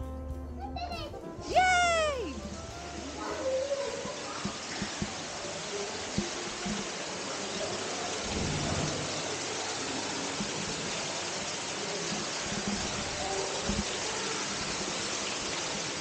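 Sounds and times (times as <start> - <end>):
falling water rushing: 1.4 - 16.0.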